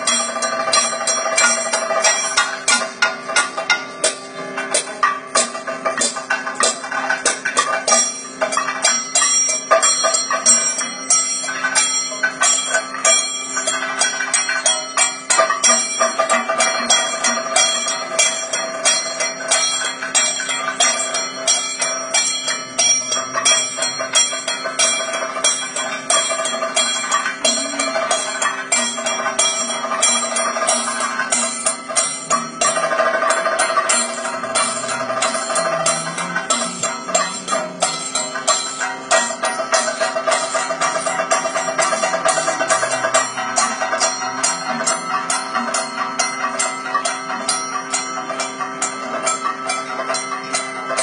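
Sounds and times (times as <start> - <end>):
cymbals and gong ringing: 0.0 - 51.0
rapid drum strokes: 0.0 - 51.0.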